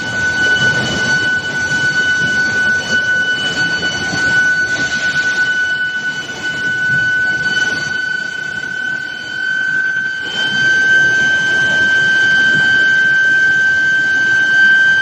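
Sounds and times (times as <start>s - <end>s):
induction heater high-pitched whine: 0.0s - 15.0s.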